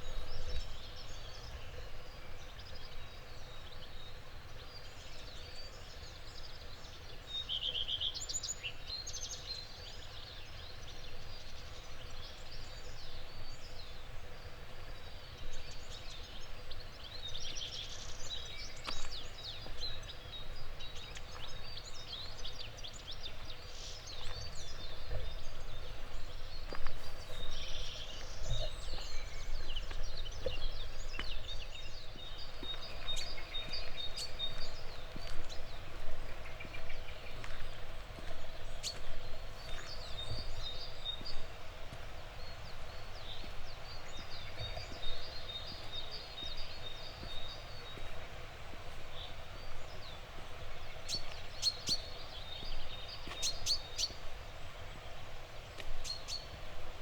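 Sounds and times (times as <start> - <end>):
outdoor background hiss: 0.0 - 57.0
songbirds singing: 0.0 - 57.0.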